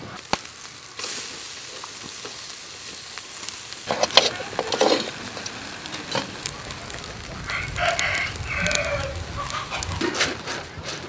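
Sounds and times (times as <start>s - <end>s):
meat sizzling on a grill: 0.0s - 10.1s
crackles and pops: 0.0s - 11.0s.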